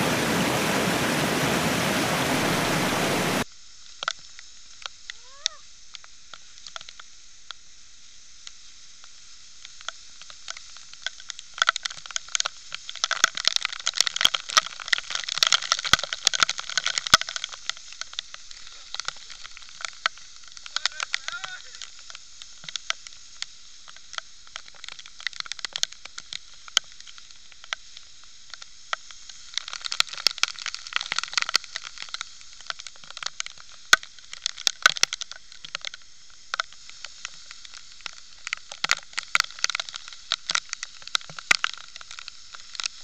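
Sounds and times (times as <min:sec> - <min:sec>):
waterfall spray hissing: 0:00.0 - 0:43.0.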